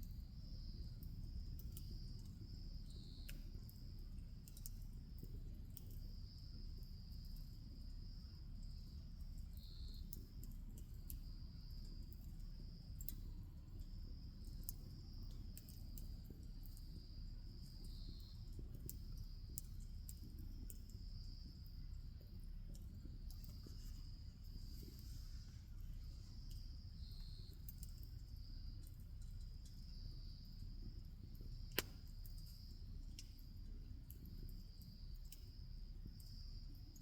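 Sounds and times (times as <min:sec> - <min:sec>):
bonfire crackling and popping: 0:00.0 - 0:37.0
insects trilling: 0:00.0 - 0:37.0.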